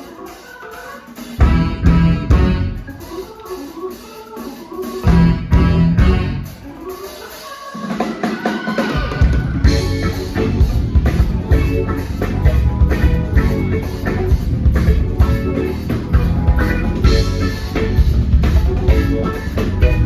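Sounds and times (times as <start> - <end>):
live band playing instrumental: 0.0 - 20.0.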